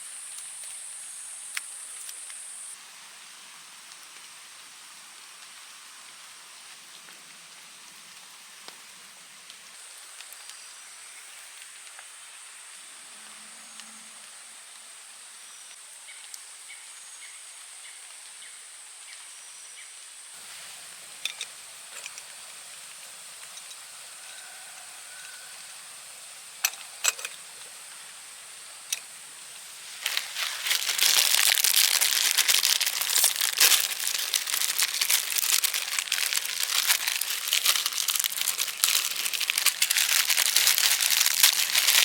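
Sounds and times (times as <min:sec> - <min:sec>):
light drips and ticks: 0:00.2 - 0:42.0.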